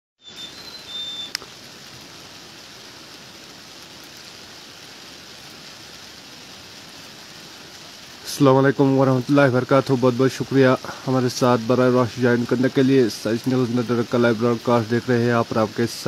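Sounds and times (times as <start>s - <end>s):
steady rain falling: 0.2s - 16.0s.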